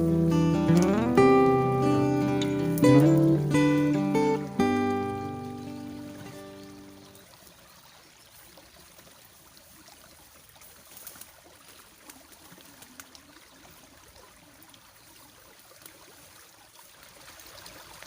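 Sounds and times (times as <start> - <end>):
stream trickling: 0.0 - 18.0.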